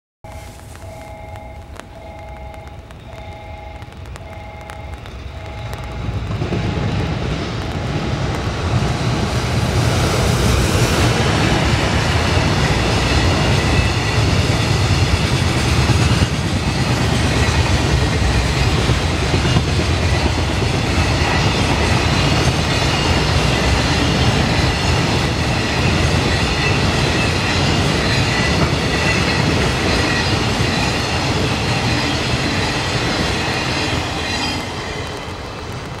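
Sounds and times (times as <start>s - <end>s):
freight train rumbling past: 0.3s - 36.0s
wheels clacking over rail joints: 5.6s - 36.0s.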